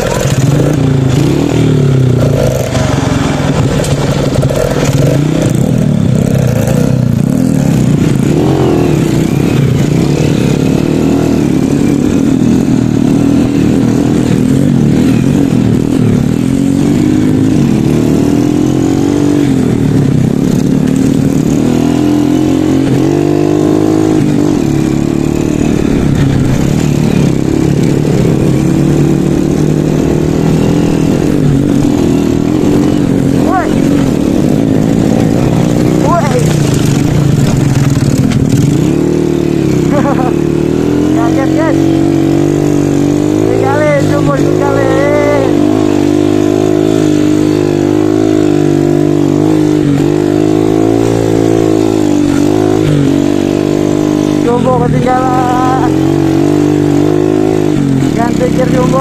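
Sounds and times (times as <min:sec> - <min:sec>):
motorcycle engine revving: 0:00.0 - 0:59.0
other motorcycle engines: 0:00.0 - 0:59.0.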